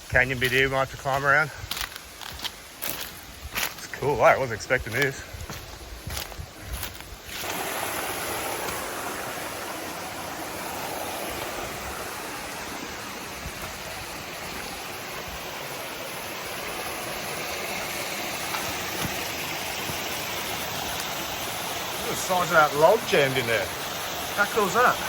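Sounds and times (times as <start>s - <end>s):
creek water running over rocks: 0.0s - 25.0s.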